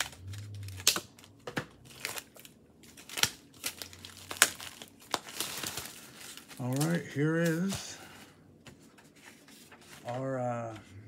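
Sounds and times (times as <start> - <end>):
plastic bags and papers crinkling: 0.0 - 10.9.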